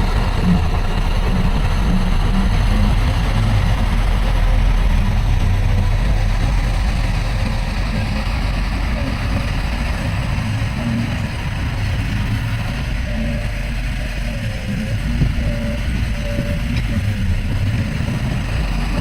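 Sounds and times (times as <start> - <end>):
heavy diesel engine rumbling: 0.0 - 19.0.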